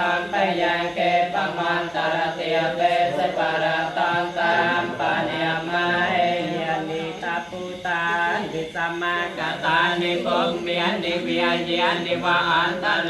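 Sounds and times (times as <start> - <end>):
monks chanting: 0.0 - 13.0.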